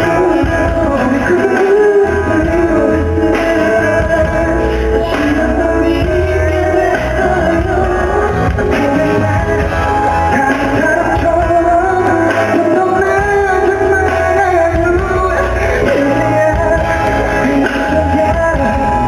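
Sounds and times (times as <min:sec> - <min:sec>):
live pop-rock band: 0:00.0 - 0:19.0
man singing: 0:00.0 - 0:19.0.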